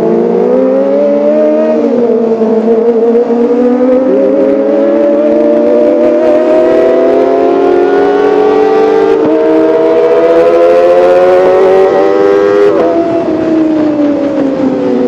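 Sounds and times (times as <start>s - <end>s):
motorcycle engine wailing at high revs: 0.0s - 15.0s.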